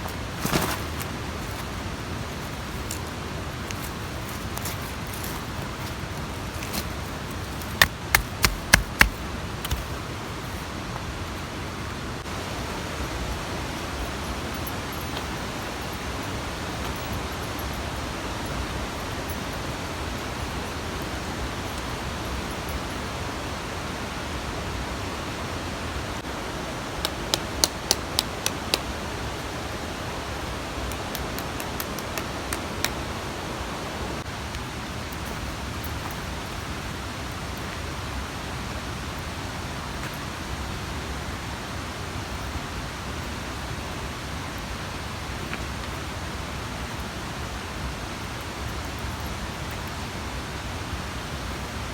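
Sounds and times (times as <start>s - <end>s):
mountain stream rushing: 0.0s - 51.9s.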